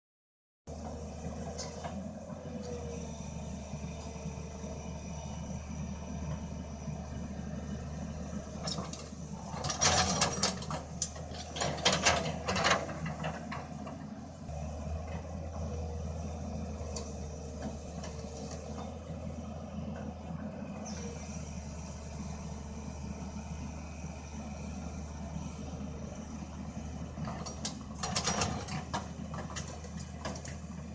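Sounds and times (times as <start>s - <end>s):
diesel engine running: 0.7s - 30.9s.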